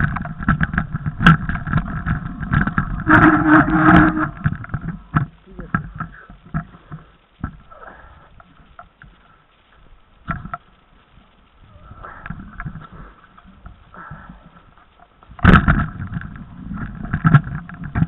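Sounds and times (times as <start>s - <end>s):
bike knocks and rattles: 0.0s - 7.7s, 10.2s - 11.3s, 12.1s - 18.0s.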